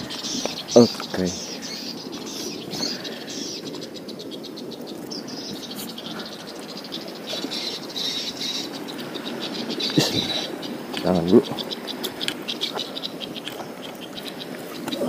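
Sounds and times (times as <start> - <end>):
birds twittering and chirping: 0.0 - 15.0
low steady rustle: 0.0 - 15.0.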